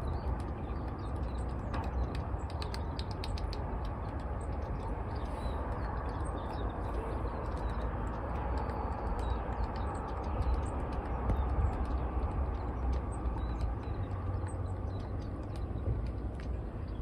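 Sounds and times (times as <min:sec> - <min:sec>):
outdoor rumble and hiss: 0:00.0 - 0:17.0
small birds chirping: 0:00.0 - 0:17.0.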